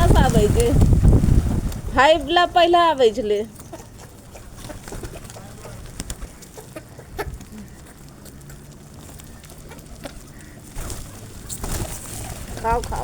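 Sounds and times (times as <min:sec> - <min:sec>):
birds clucking: 0:00.0 - 0:13.0.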